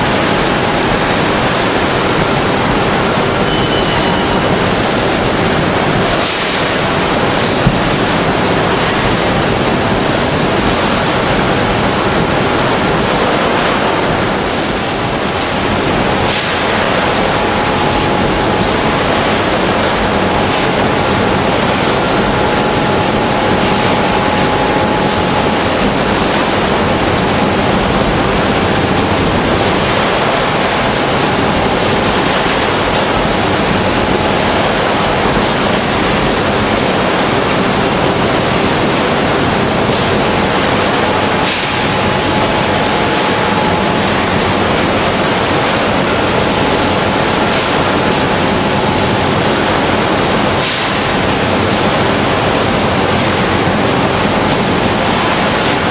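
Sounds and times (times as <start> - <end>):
faint constant hum: 0.0 - 55.9
loud steady rushing noise: 0.0 - 55.9.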